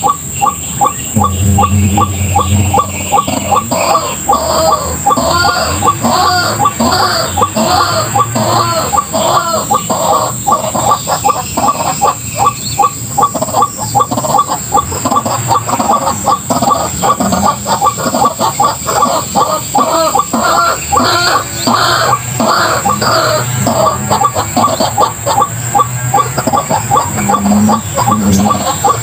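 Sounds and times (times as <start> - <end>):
waterhen calling: 0.0 - 29.0.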